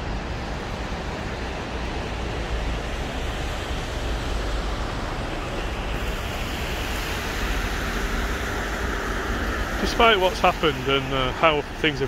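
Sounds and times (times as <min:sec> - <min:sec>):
distant road traffic: 0:00.0 - 0:12.0
wind buffeting microphone: 0:00.0 - 0:12.0.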